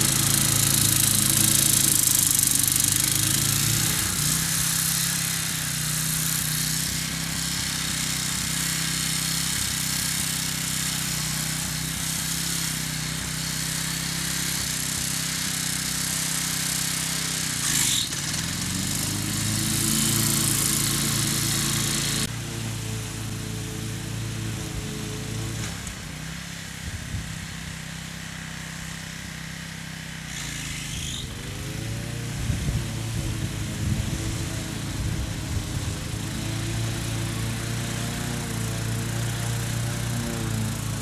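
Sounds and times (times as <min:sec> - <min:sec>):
riding mower engine running: 0:00.0 - 0:41.0.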